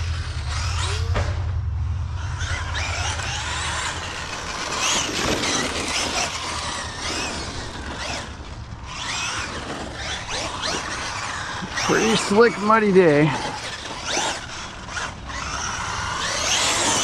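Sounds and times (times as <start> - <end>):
rc truck electric motor whine: 0.0 - 17.0.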